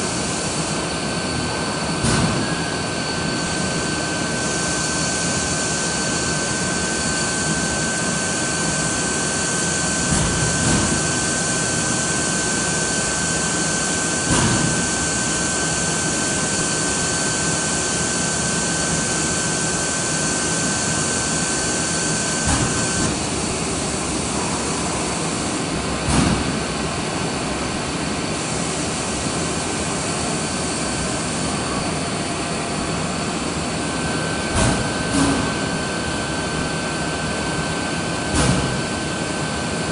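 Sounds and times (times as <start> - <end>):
high machine whine: 0.0 - 39.9
loud rushing machine noise: 0.0 - 39.9.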